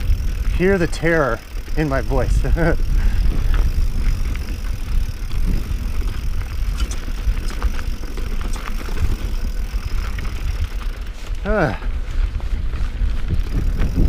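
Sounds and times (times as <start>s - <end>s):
bike tyres rolling on rock: 0.0s - 14.0s
wind rumble on microphone: 0.0s - 14.0s.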